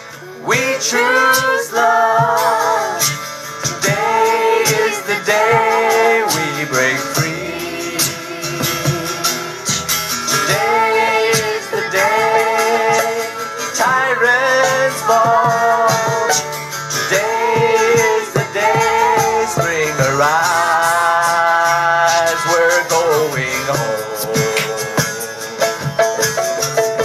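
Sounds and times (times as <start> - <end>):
beatboxed percussion: 0.0 - 27.0
strummed acoustic guitar: 0.0 - 27.0.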